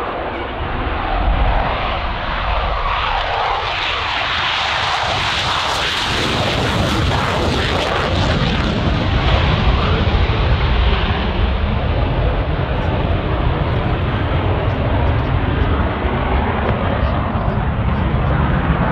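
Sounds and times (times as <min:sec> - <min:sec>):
jet taking off with afterburner: 0:00.0 - 0:18.9.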